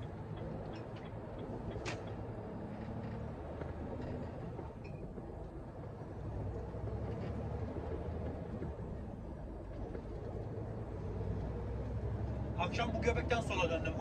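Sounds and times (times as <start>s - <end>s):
lorry engine droning: 0.0s - 14.0s
road noise: 0.0s - 14.0s.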